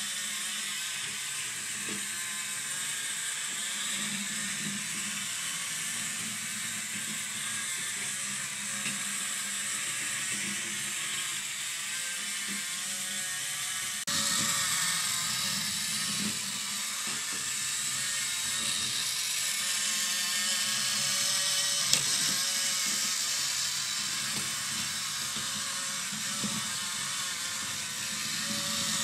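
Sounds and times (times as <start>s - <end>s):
small electric motor whirring: 0.0s - 29.0s.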